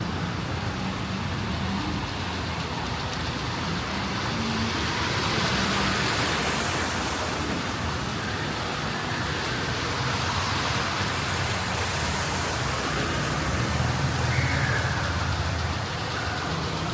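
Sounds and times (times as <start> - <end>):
low hum of engines: 0.0 - 16.9
tyres hissing on wet road: 0.0 - 16.9.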